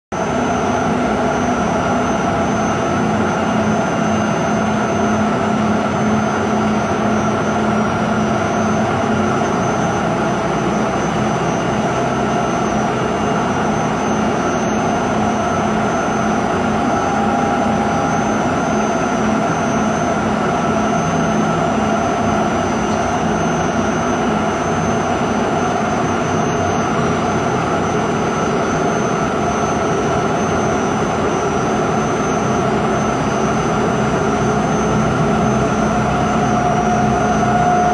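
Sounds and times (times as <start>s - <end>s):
polishing machine motor drone: 0.2s - 37.9s.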